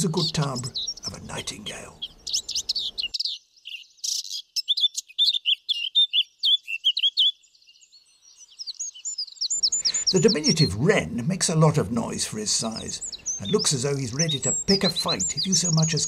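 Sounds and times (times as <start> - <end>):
bird warbling song: 0.0 - 16.0.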